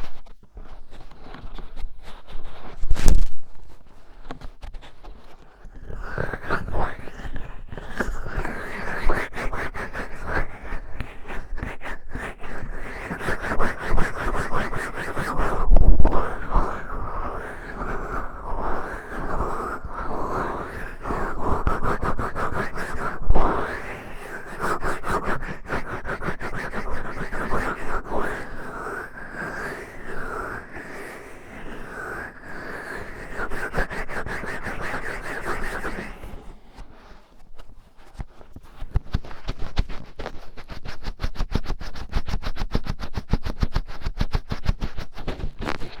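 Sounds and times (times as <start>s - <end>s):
fingertip scratching in ear: 0.0s - 46.0s.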